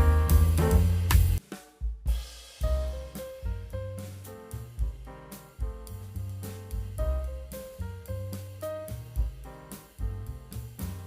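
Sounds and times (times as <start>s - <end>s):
bass: 0.0s - 1.4s, 2.1s - 11.0s
drums: 0.0s - 11.0s.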